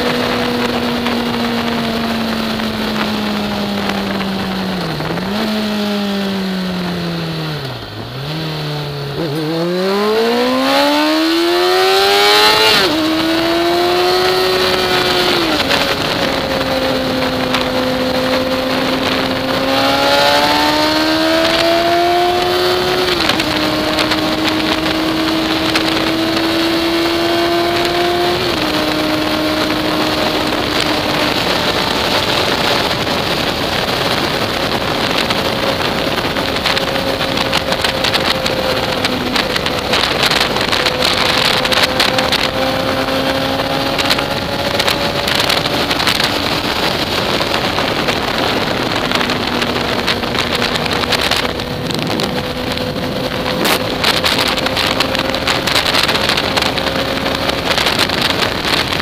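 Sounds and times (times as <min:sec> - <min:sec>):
motorcycle engine accelerating: 0:00.0 - 0:59.0
wind noise on microphone: 0:00.0 - 0:59.0.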